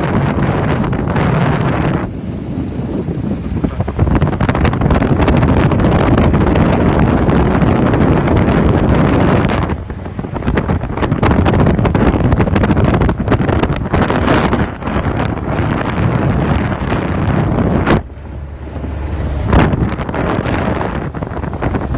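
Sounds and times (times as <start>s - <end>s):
aircraft engine in flight: 0.0s - 21.9s
wind buffeting microphone: 0.0s - 21.9s.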